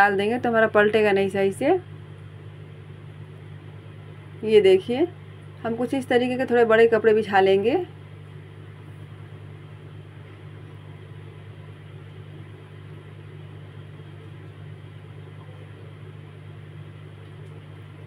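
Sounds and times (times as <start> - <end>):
low hum with faint hiss: 0.0 - 18.0.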